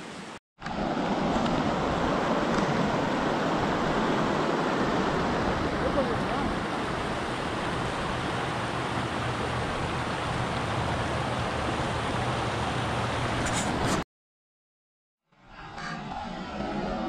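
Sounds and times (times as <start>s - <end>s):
creek rushing over rocks: 0.2s - 14.0s.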